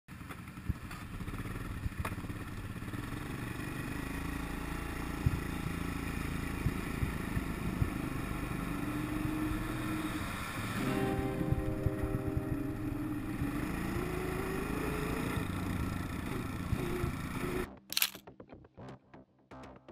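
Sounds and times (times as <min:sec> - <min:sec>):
quad bike engine running: 0:00.1 - 0:18.2.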